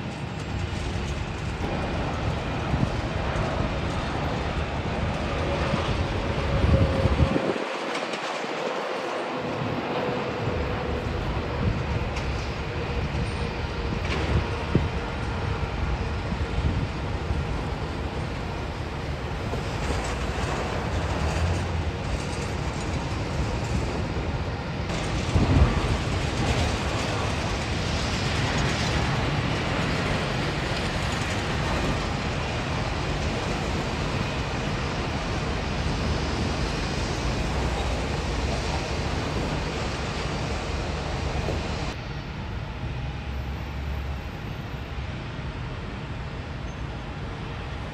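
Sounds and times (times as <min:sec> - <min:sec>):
cars passing on road: 0:00.0 - 0:47.9
jet engines at takeoff: 0:00.0 - 0:47.9.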